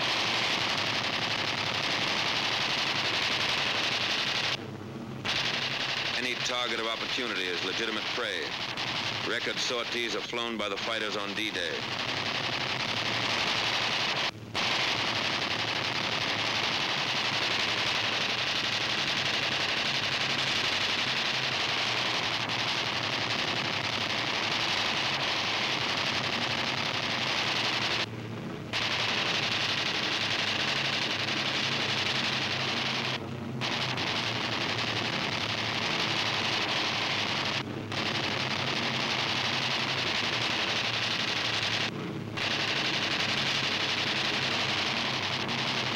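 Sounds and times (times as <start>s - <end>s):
machine guns firing rapid bursts: 0.0s - 4.6s, 5.2s - 28.1s, 28.7s - 45.9s.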